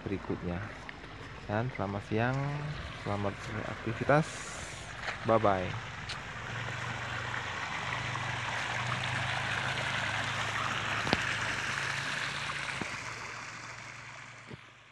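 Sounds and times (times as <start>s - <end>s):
water gushing into pond: 0.3s - 14.9s.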